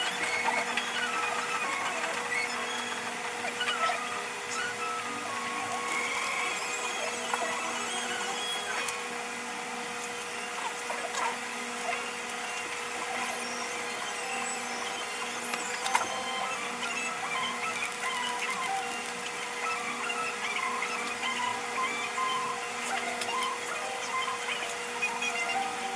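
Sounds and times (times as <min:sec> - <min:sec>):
steady hum: 0:00.0 - 0:25.9.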